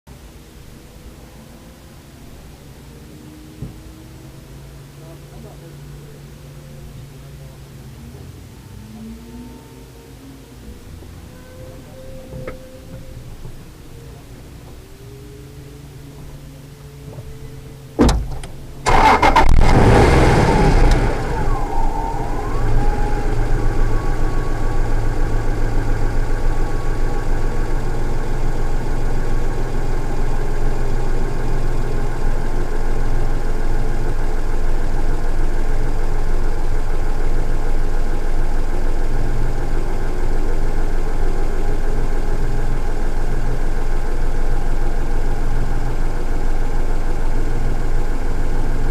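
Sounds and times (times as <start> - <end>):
car engine starting and idling: 0.2 - 48.9.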